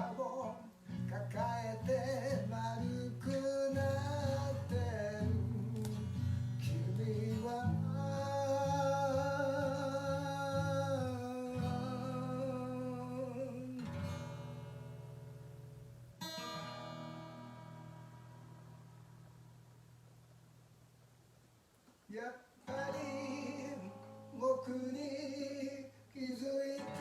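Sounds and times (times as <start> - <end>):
strummed acoustic guitar: 0.0 - 20.6, 22.6 - 27.0.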